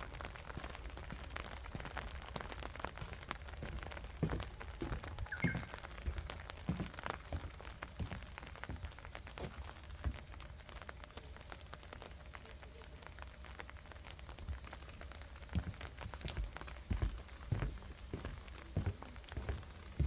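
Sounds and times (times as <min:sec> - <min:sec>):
rain pattering and dripping: 0:00.0 - 0:20.0.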